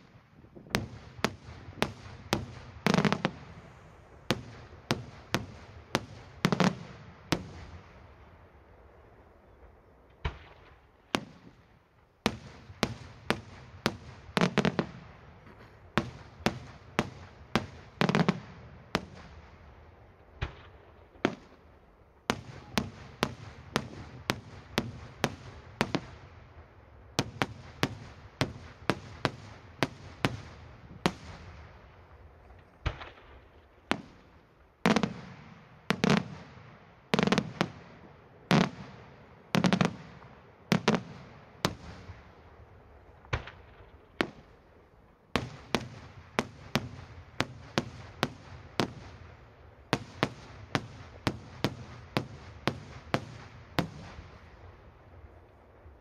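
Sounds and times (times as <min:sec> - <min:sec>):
heavy fireworks booms: 0:00.0 - 0:55.3
fireworks bursting bangs: 0:00.0 - 0:56.0.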